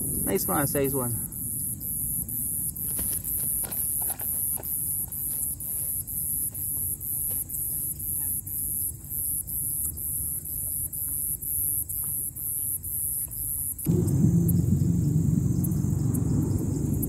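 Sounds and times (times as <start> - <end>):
insects chirping in a trill: 0.0 - 17.0.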